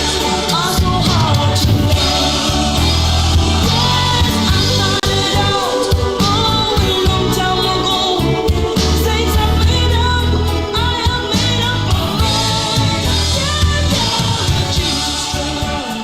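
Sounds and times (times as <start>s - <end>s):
band with bass and drums: 0.0s - 16.0s
person singing: 0.0s - 16.0s.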